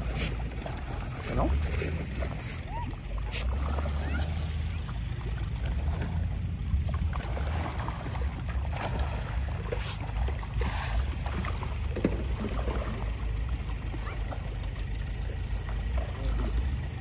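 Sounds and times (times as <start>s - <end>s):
rippling pond water: 0.0s - 17.0s.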